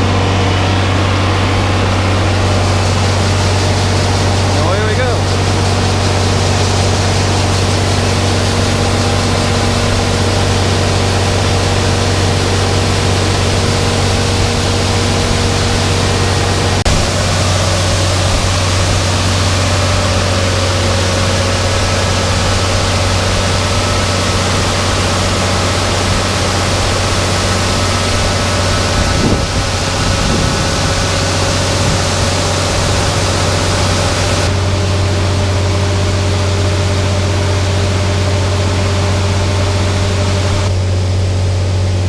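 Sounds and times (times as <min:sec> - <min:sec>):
whining tones: 0:00.0 - 0:41.3
tractor engine running: 0:00.0 - 0:42.0.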